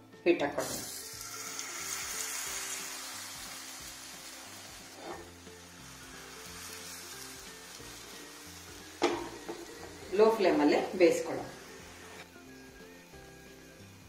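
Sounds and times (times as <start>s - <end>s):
batter sizzling in hot oil: 0.6s - 14.0s.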